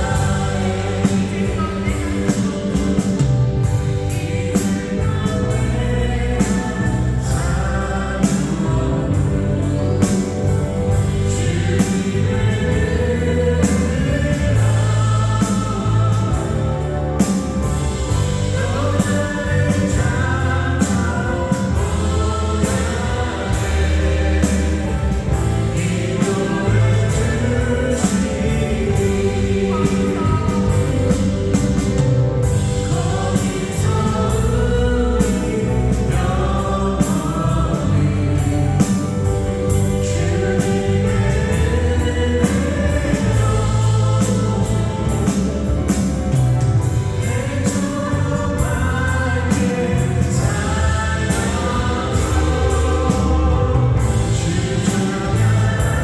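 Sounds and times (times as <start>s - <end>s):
instrumental accompaniment: 0.0s - 56.0s
voices singing praise song: 0.0s - 56.0s.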